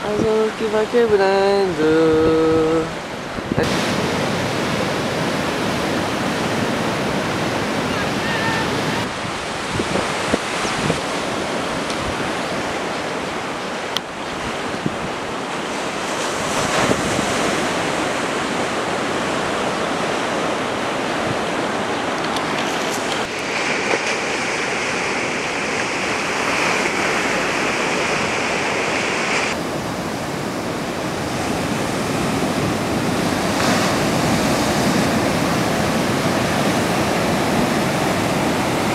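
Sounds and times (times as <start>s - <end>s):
ocean surf breaking: 0.0s - 38.9s
wind on microphone: 0.0s - 38.9s.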